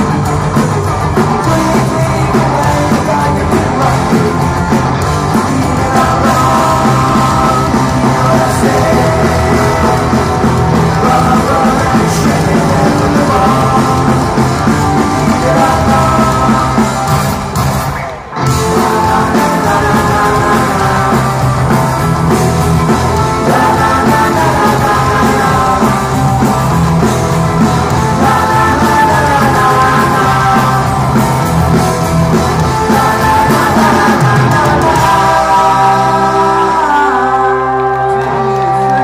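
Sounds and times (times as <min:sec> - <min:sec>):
punk rock band playing live: 0:00.0 - 0:39.0.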